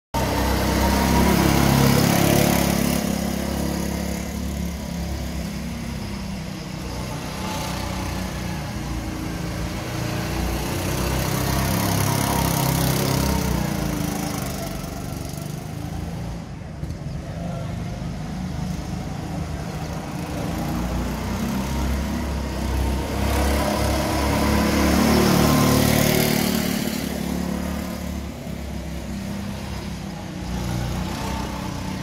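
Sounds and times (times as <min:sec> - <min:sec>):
go-kart engines passing: 0:00.2 - 0:32.0.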